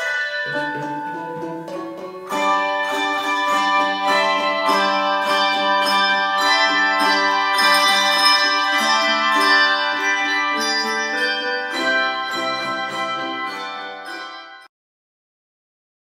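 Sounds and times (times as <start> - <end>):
handbell choir playing chords: 0.0 - 14.7.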